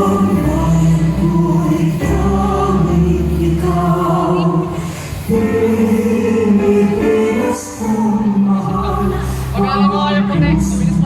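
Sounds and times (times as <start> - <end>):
group singing long notes: 0.0 - 10.3
steady low bass: 0.0 - 11.0.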